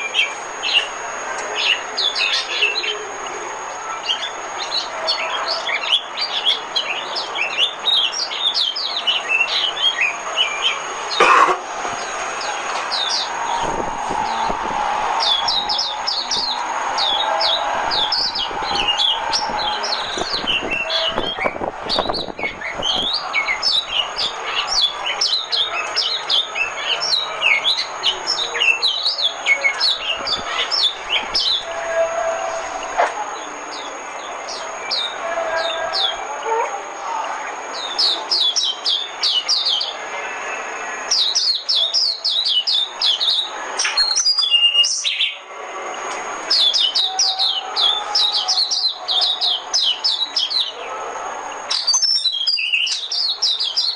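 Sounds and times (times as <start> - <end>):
bird singing rapid chirps: 0.0 - 11.3, 12.0 - 31.7, 37.5 - 45.5, 46.4 - 50.9, 51.6 - 53.9.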